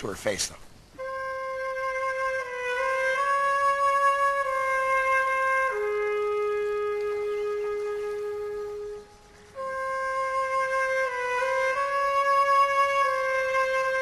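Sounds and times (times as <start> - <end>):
flute-like melody: 1.0 - 14.0.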